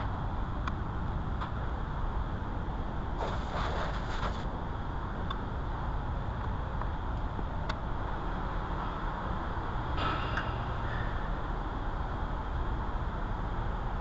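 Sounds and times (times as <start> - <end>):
low workshop rumble: 0.0 - 14.0.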